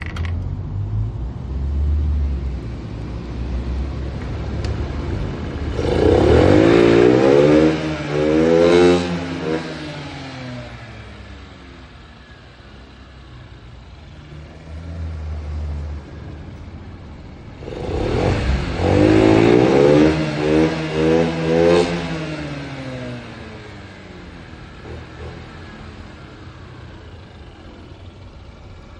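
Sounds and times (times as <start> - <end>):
scooter engine idling and revving: 0.0 - 28.9.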